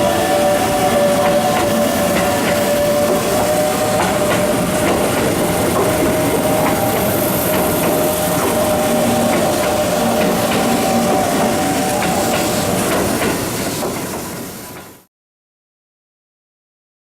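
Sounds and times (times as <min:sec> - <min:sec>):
wheels clicking over rail joints: 0:00.0 - 0:14.9
electric train whine: 0:00.0 - 0:15.1.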